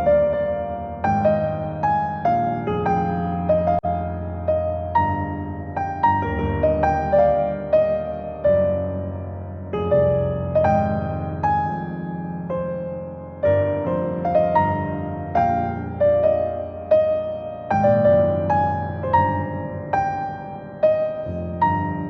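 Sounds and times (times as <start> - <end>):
slow soft piano music: 0.0 - 22.0.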